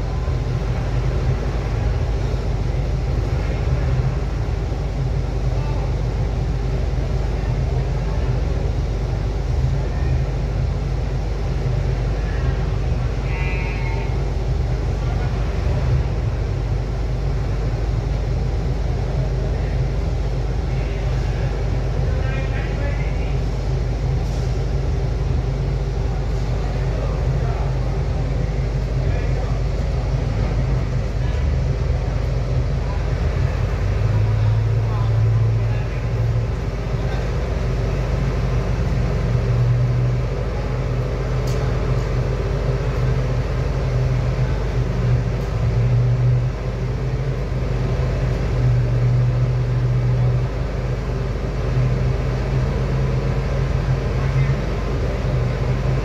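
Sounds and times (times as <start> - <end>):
low engine rumble: 0.0 - 56.0.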